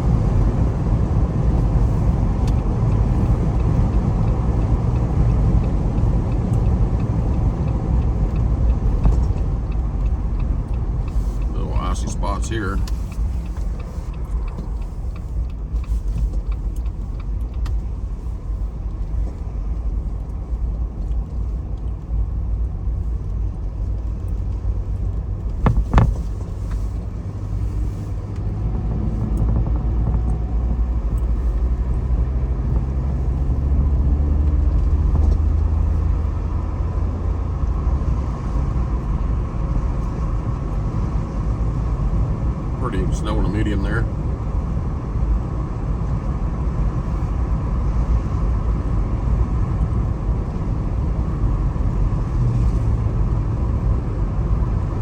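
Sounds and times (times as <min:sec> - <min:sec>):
engine and road noise rumble: 0:00.0 - 0:55.0.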